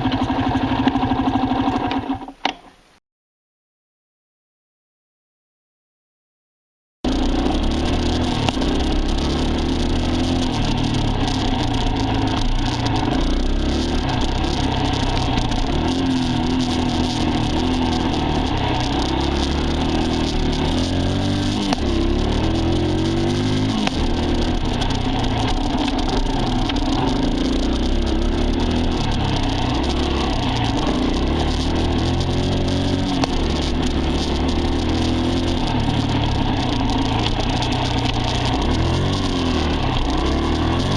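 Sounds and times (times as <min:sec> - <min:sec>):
dirt bike engine revving: 0:07.1 - 0:40.9.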